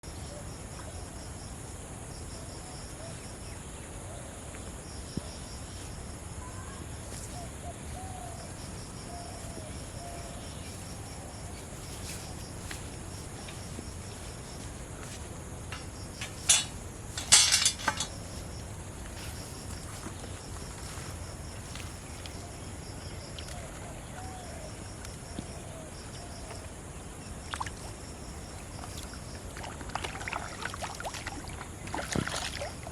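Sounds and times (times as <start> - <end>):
insects chirping: 0.0 - 32.9.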